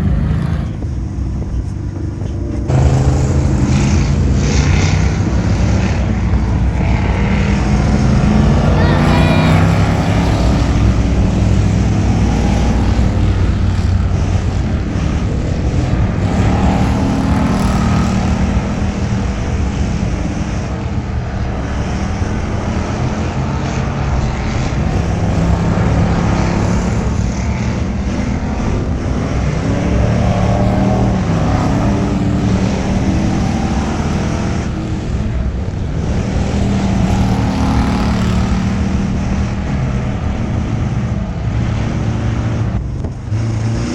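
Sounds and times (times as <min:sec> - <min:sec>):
race car engine revving: 0:00.0 - 0:01.6, 0:02.5 - 0:43.9
road and wind noise: 0:00.0 - 0:43.9.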